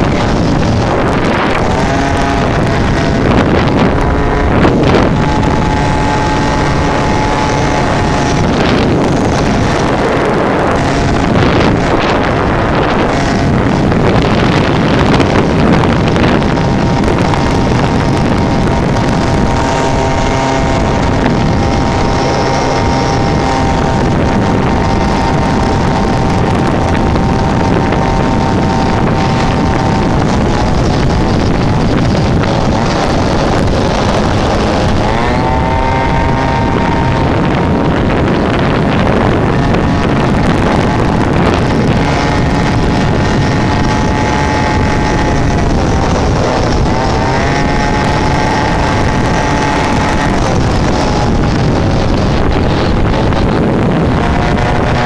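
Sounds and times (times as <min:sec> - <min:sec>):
two-stroke engine running: 0:00.0 - 0:55.0
wind buffeting microphone: 0:00.0 - 0:55.0.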